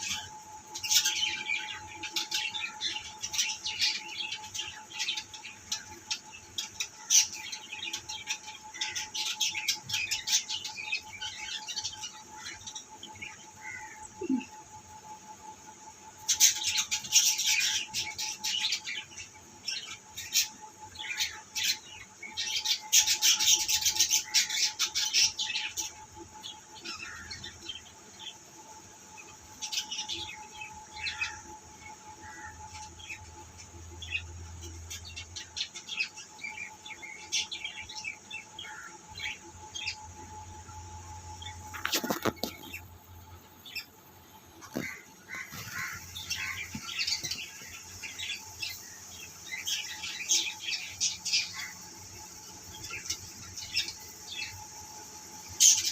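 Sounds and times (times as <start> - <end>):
caged birds chirping: 0.0 - 55.9
faint hum: 0.0 - 55.9.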